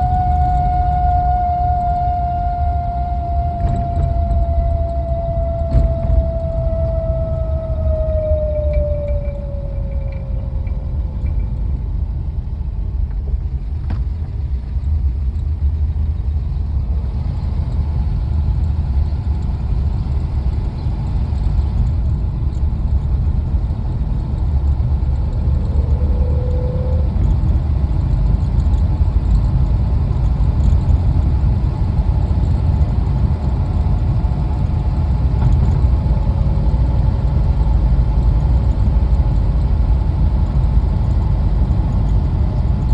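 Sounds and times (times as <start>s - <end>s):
car engine deep rumble: 0.0s - 42.9s
faint whining tones: 0.0s - 42.9s.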